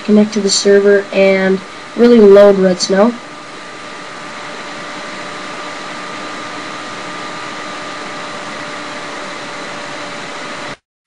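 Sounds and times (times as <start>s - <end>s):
faint tonal hum: 0.0s - 10.8s
steady fan-like hiss: 0.0s - 10.8s.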